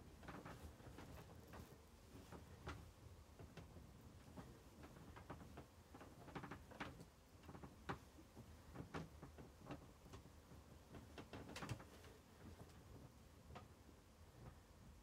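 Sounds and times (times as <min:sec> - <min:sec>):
wooden bed creaking and clicking: 0:00.0 - 0:14.7.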